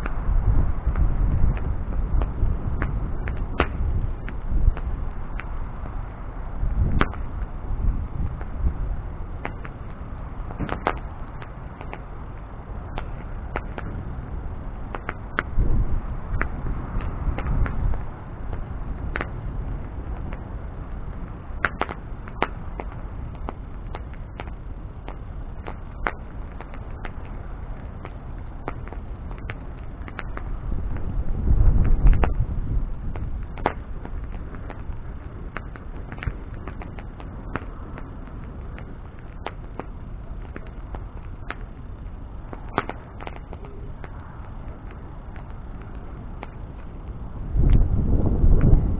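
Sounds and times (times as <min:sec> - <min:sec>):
burning wood crackling: 0:00.0 - 0:48.9
rush of flame: 0:00.0 - 0:48.9.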